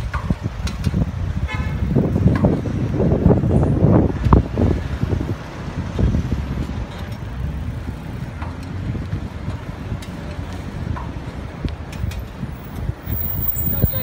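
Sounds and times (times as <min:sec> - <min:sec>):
passing road traffic: 0:00.0 - 0:14.0
wind buffeting microphone: 0:00.0 - 0:14.0.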